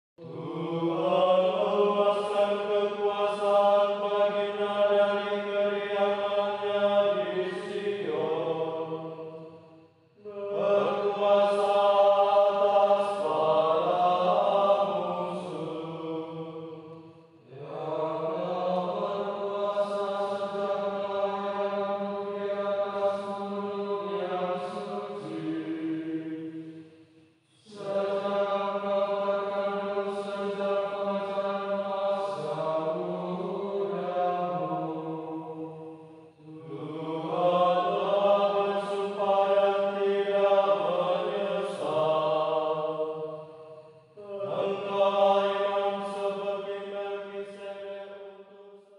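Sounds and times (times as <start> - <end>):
slow sung chant: 0.2 - 48.9.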